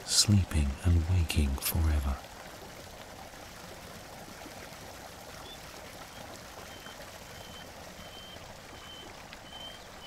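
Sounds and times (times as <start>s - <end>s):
flowing water: 0.0s - 10.0s.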